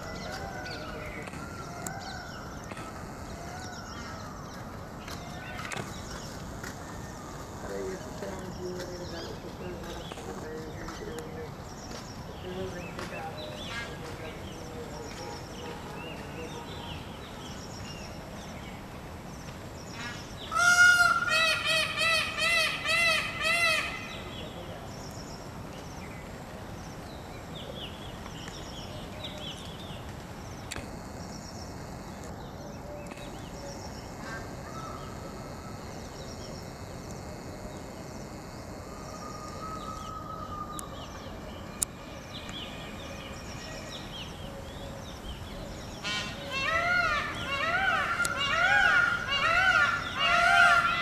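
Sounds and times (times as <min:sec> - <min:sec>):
steady background noise: 0:00.0 - 0:51.0.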